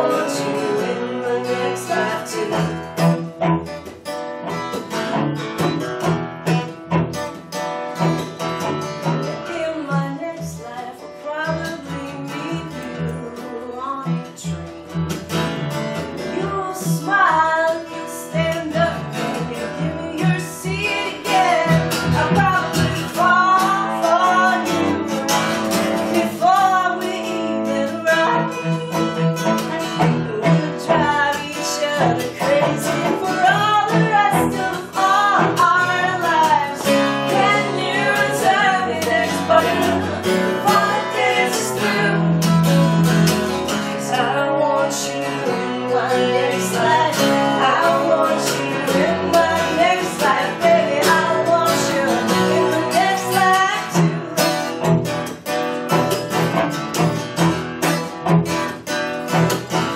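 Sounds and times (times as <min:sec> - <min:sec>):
bowed cello: 0:00.0 - 0:10.3, 0:18.5 - 0:55.2, 0:55.9 - 0:59.9
acoustic guitar strummed: 0:00.0 - 0:59.9.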